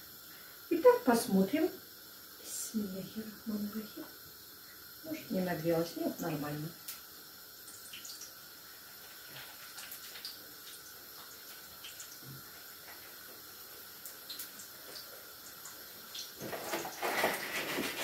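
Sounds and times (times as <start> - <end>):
hot oil sizzling and crackling: 0.0 - 18.0.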